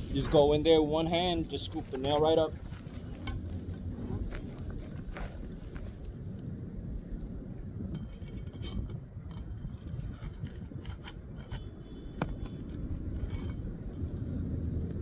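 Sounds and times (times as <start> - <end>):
metal tool scraping under shingle: 0.0 - 5.8, 7.8 - 14.4
steady low rumble: 0.0 - 15.0.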